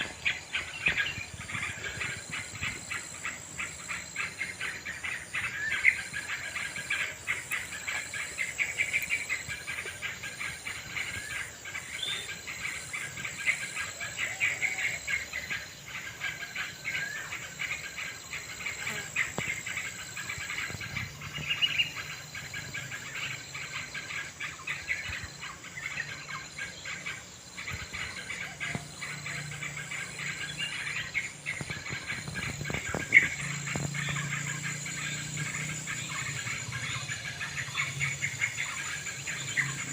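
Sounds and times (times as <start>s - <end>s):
bulbuls chattering: 0.0s - 39.9s
insect drone: 0.0s - 39.9s.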